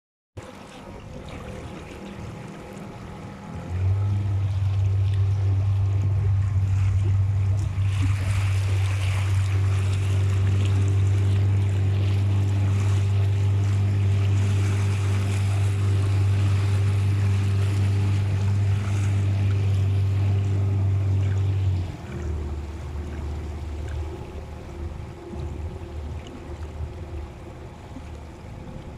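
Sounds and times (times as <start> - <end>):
boat motor running: 0.4 - 28.9
rushing water and wind: 0.4 - 28.9.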